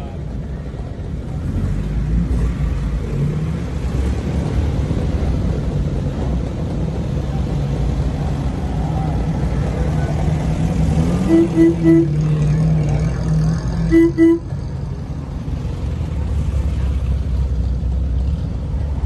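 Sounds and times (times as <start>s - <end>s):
car engines rumbling low: 0.0s - 19.0s.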